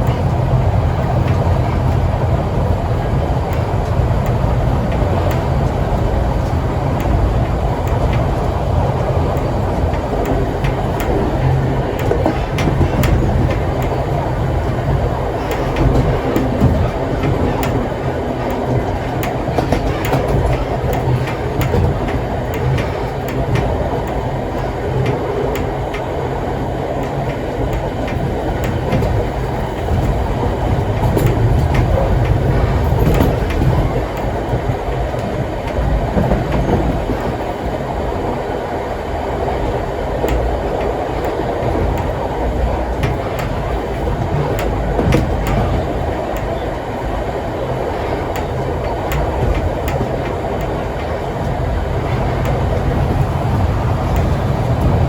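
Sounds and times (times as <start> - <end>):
train wheels rumbling on rails: 0.0 - 55.0
wheels clicking and knocking: 0.0 - 55.0.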